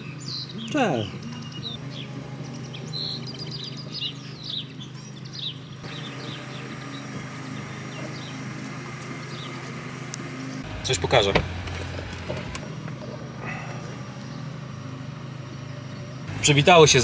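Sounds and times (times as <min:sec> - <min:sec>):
small birds chirping: 0:00.0 - 0:11.2, 0:12.6 - 0:17.0
steady low hum: 0:00.0 - 0:17.0.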